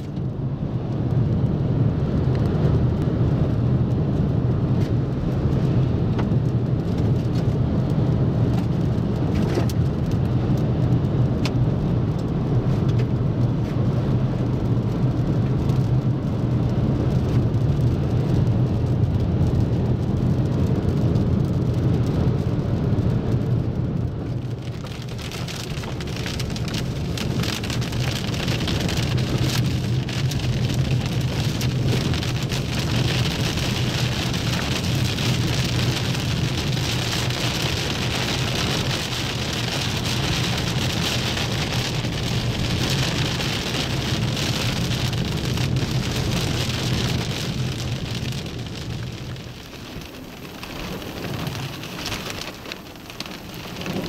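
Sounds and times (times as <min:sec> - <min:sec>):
car engine and road rumble: 0:00.0 - 0:54.0
rain on windshield: 0:00.0 - 0:54.0.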